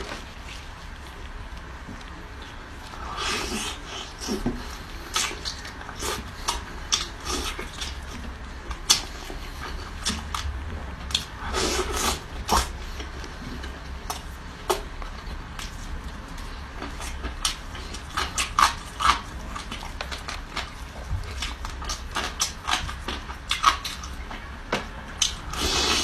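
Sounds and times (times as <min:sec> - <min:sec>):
chewing and crunching: 0:00.0 - 0:26.0
steady low hum: 0:00.0 - 0:26.0.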